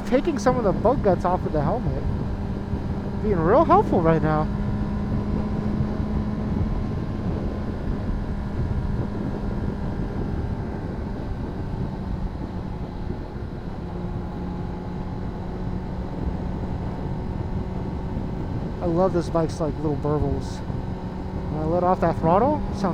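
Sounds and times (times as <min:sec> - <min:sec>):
motorcycle engine cruising: 0:00.0 - 0:22.9
wind rushing over microphone: 0:00.0 - 0:22.9.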